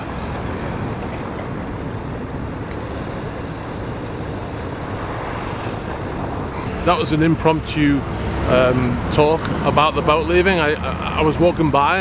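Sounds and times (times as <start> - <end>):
boat engines and propeller wash: 0.0 - 12.0.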